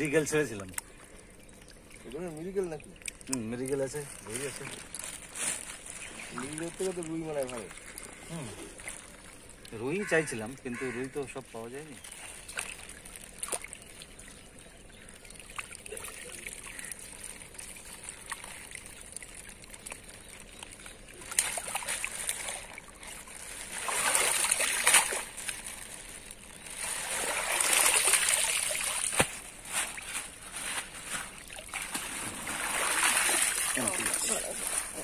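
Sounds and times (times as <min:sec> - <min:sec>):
gushes of water: 0:00.0 - 0:35.0
water pouring and splashing: 0:00.0 - 0:35.0.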